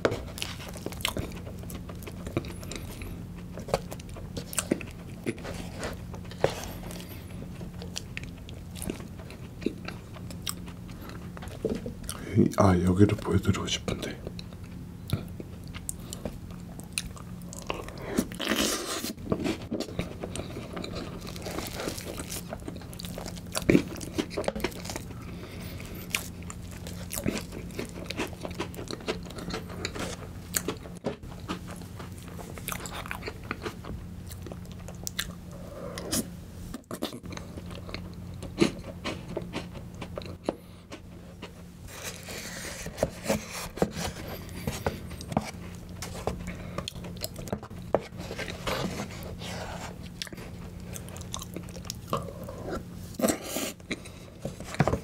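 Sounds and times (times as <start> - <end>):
chewing and wet mouth sounds: 0.0 - 12.7, 14.0 - 41.6, 44.3 - 49.3, 49.9 - 54.8
cookie crunching: 0.0 - 35.4, 36.0 - 55.0.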